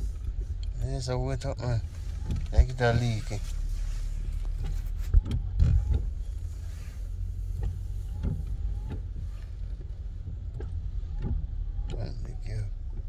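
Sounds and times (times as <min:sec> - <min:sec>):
car idling hum: 0:00.0 - 0:13.0
windshield wipers squeaking: 0:00.0 - 0:13.0.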